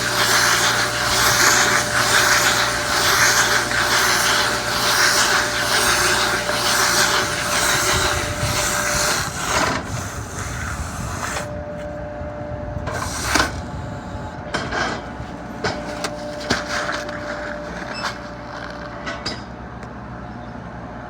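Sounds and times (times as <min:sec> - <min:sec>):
loud hissing rush: 0:00.0 - 0:11.8, 0:12.8 - 0:18.5
baler motor humming: 0:00.0 - 0:19.0.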